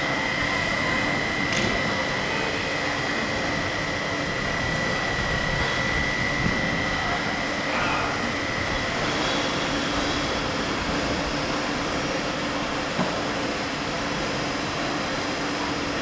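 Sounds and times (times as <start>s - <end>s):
electric train running: 0.0s - 16.0s
high whine: 0.0s - 16.0s.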